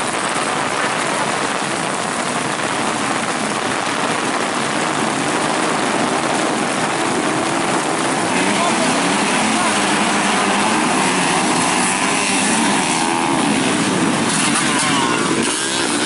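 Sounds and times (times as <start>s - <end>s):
heavy rain hissing: 0.0s - 16.0s
motorcycle engines revving: 0.0s - 16.0s.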